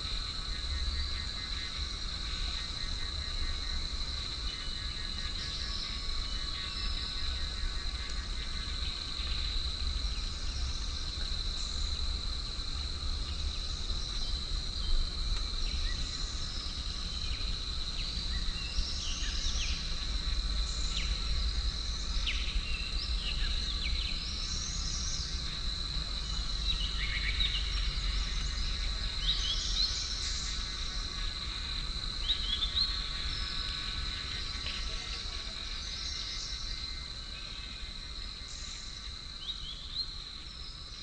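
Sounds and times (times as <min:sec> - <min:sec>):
insects buzzing drone: 0:00.0 - 0:41.0.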